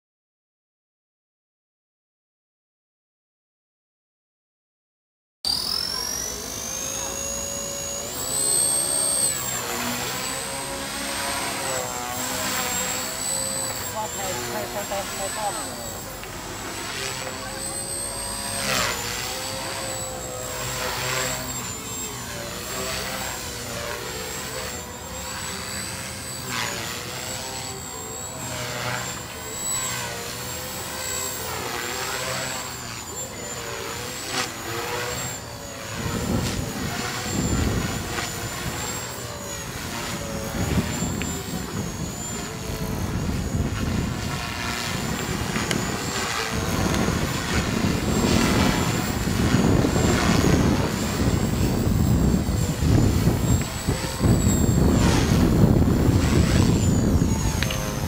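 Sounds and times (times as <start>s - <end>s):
rc helicopter motor whine: 5.5s - 58.0s.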